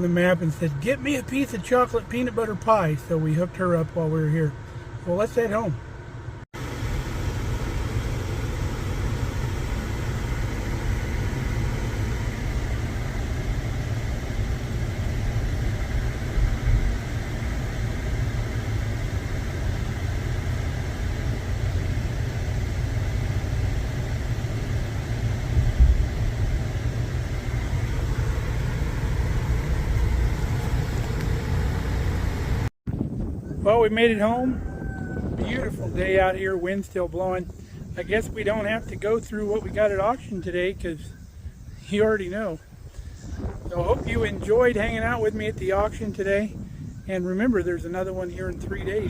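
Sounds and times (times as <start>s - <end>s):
road noise: 0.0s - 49.0s
truck engine rumble: 0.0s - 49.0s.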